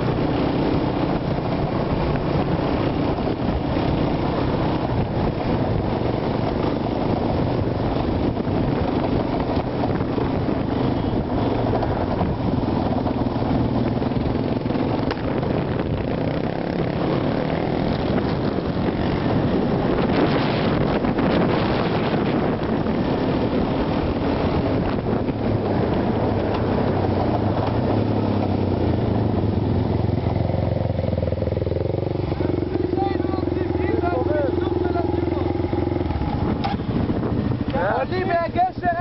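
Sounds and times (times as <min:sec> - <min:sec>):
quad bike engine running: 0:00.0 - 0:39.0
wind buffeting microphone: 0:00.0 - 0:39.0.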